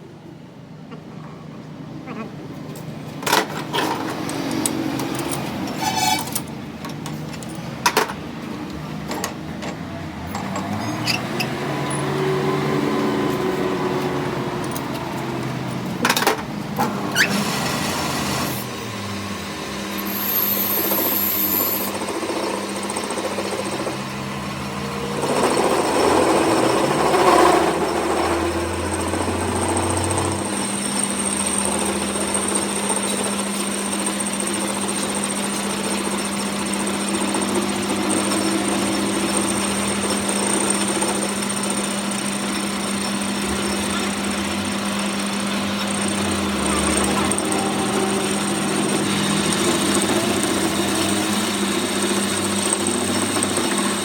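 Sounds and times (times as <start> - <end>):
motor running steadily: 0.0 - 54.0.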